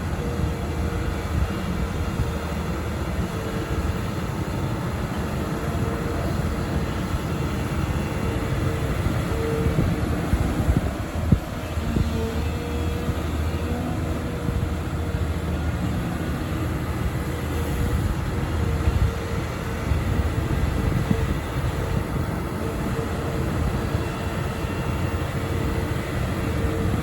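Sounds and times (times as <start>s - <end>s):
excavator engine and hydraulics: 0.0s - 27.0s.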